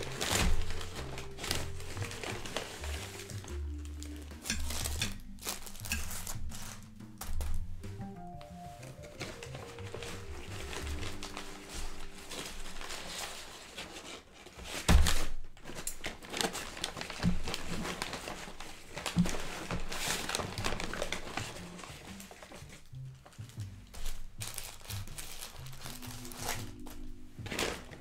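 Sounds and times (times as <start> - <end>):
paper bag rustling: 0.0 - 28.0.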